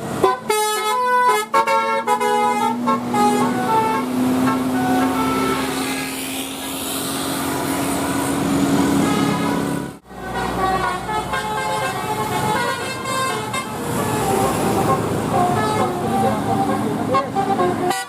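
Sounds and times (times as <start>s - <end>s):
bus horns tooting tunes: 0.0s - 6.8s, 7.4s - 18.0s
bus engines: 0.0s - 18.0s
road noise: 0.0s - 18.0s.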